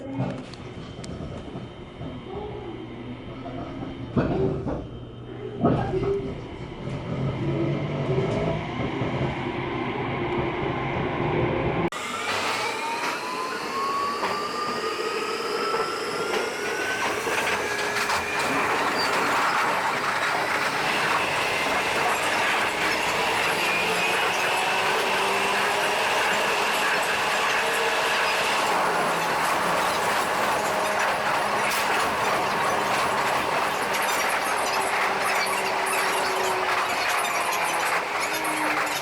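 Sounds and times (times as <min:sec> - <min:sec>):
train rumble: 0:00.0 - 0:11.9, 0:13.7 - 0:39.0
rail running noise: 0:00.1 - 0:39.0
train motor whine rising: 0:06.0 - 0:39.0.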